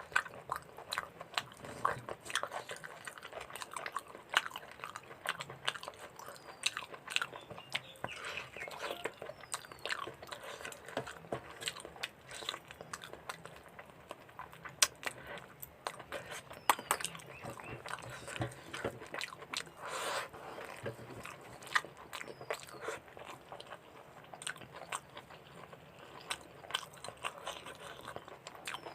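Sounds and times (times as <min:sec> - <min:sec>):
person chewing food: 0:00.0 - 0:28.9.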